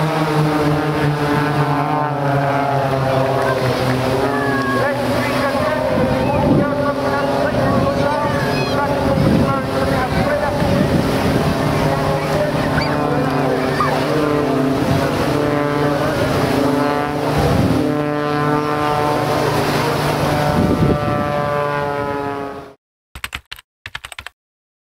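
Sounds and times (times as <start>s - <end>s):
propeller plane engine droning: 0.0s - 22.8s.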